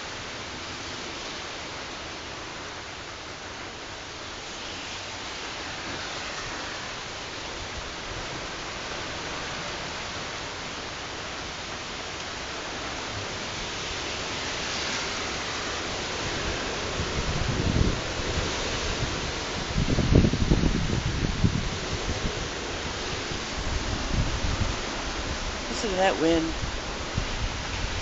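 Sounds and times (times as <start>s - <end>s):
storm wind and heavy rain: 0.0s - 28.0s.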